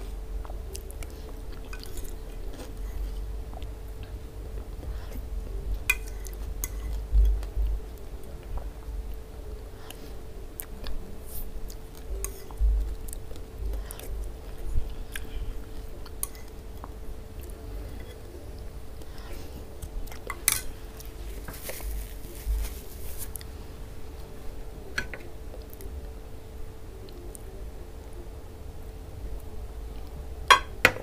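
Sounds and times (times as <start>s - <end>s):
soft chewing: 0.0s - 26.2s
faint steady hum: 0.0s - 31.0s.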